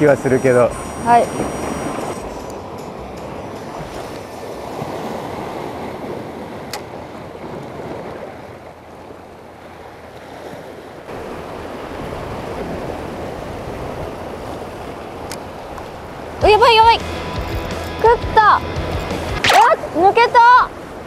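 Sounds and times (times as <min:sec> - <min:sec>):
surf washing against rocks: 0:00.0 - 0:17.1, 0:19.4 - 0:21.0.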